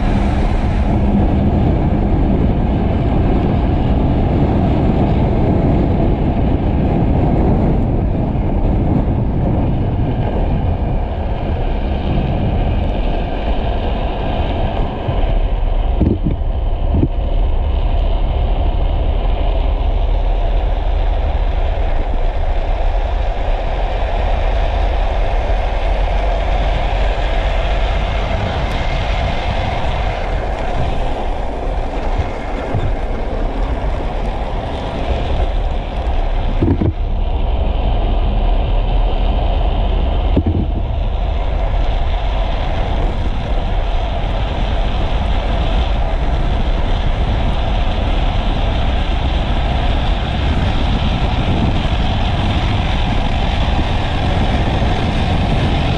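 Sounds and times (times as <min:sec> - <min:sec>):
wheels rolling on asphalt: 0:00.0 - 0:55.9
wind buffeting microphone: 0:00.0 - 0:55.9.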